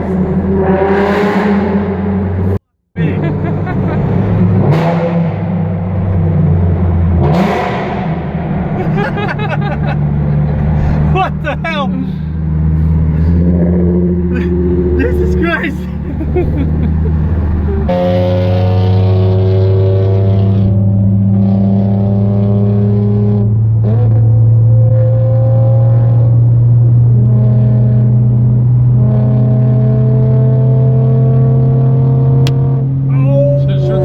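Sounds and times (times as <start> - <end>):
car engine droning: 0.0 - 34.0.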